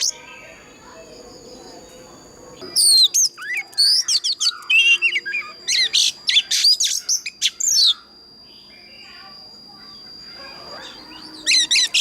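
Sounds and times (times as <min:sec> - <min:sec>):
bird singing: 0:00.0 - 0:12.0
faint steady high tone: 0:00.0 - 0:12.0.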